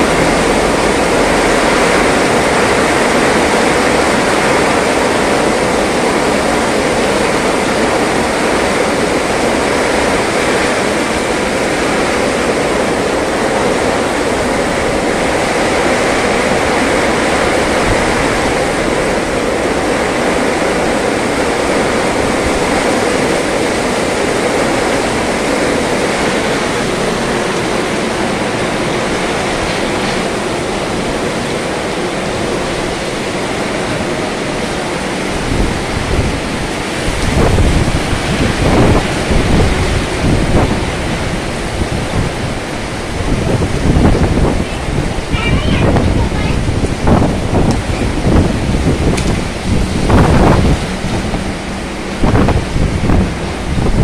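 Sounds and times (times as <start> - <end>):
heavy rain on wet road: 0.0 - 54.0.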